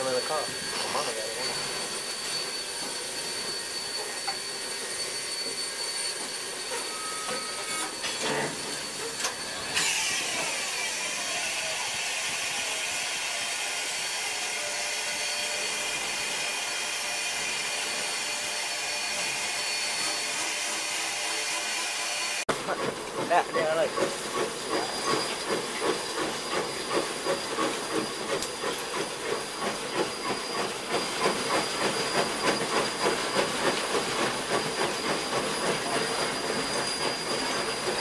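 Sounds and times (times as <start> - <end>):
steam locomotive hissing: 0.0 - 38.0.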